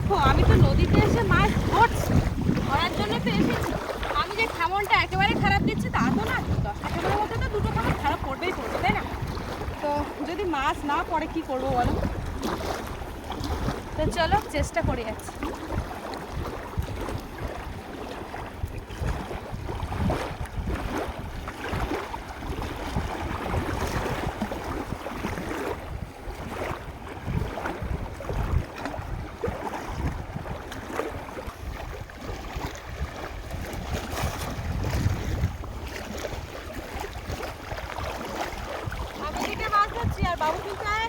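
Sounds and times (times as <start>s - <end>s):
river water washing: 0.0s - 41.0s
wind buffeting microphone: 0.0s - 41.0s.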